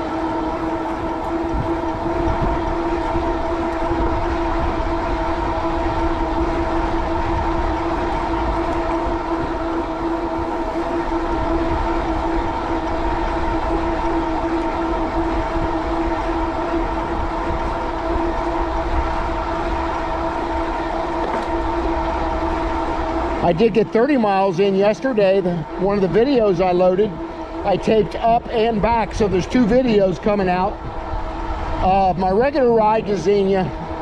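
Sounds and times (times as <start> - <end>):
electric bike motor whine: 0.0 - 34.0
wind rumble on microphone: 0.0 - 34.0.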